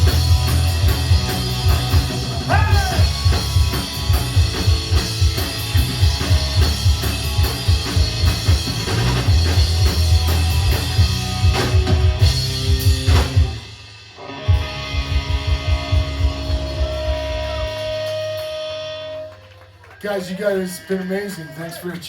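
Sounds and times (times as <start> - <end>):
pounding drum kit: 0.0 - 19.0
instrumental rock band: 0.0 - 20.0.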